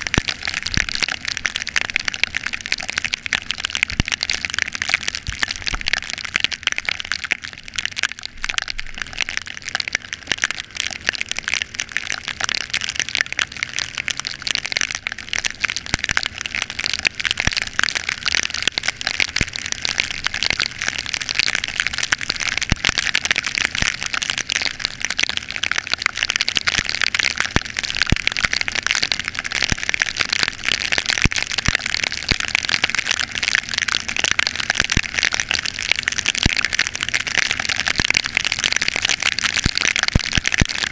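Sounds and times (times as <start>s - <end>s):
heavy rain hitting microphone: 0.0s - 40.9s.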